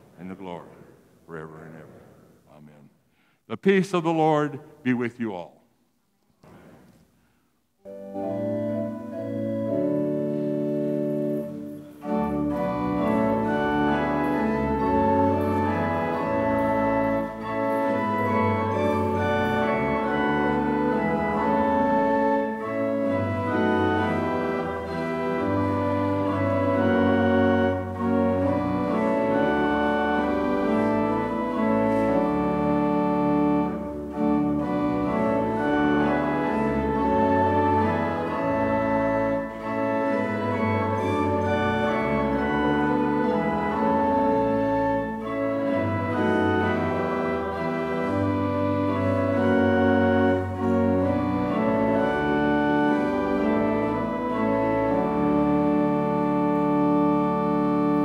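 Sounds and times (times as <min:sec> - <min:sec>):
organ playing sustained chords: 0:07.8 - 0:58.0.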